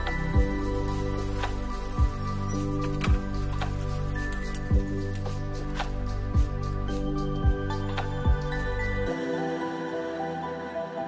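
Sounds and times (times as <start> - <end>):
held chords music: 0.0 - 11.0.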